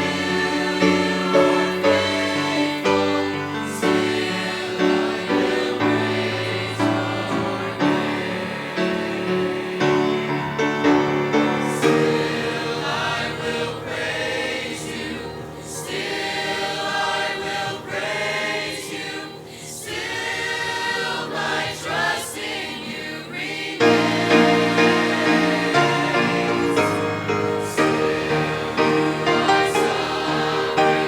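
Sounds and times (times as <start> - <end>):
mixed choir singing gospel: 0.0 - 31.0.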